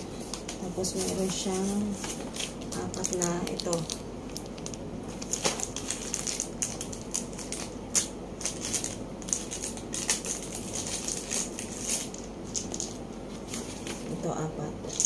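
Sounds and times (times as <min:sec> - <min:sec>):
plastic bag crinkling: 0:00.3 - 0:12.8.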